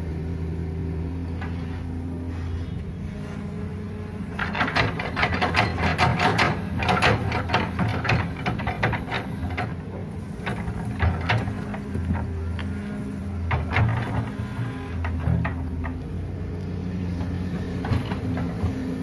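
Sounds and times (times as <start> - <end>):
diesel engines droning: 0.0 - 19.0.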